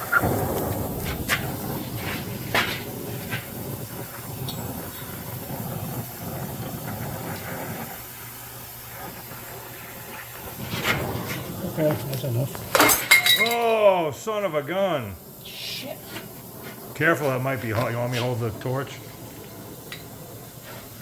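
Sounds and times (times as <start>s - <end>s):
torch flame hissing: 0.0s - 21.0s.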